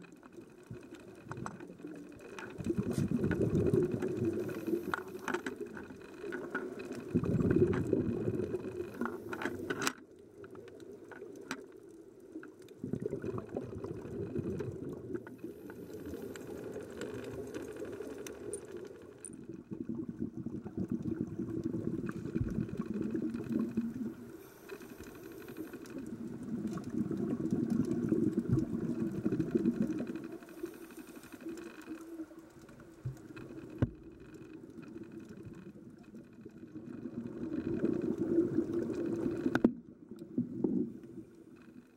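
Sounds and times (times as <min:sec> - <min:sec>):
underwater bubbling: 0:00.0 - 0:41.9.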